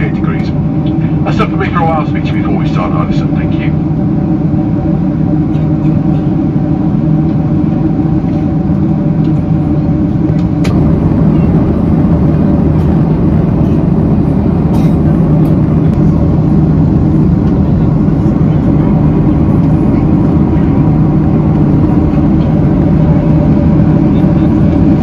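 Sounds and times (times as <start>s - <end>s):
airplane cabin noise: 0.0s - 25.0s.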